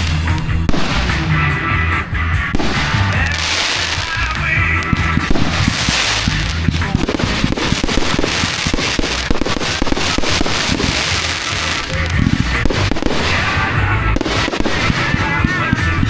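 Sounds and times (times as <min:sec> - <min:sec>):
fireworks cracking and popping: 0:00.0 - 0:01.6, 0:02.5 - 0:16.0.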